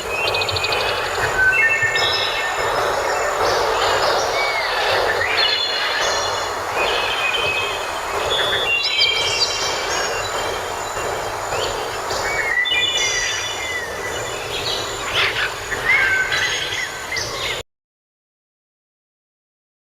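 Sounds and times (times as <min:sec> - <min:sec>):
woodland birds singing: 0:00.0 - 0:17.6.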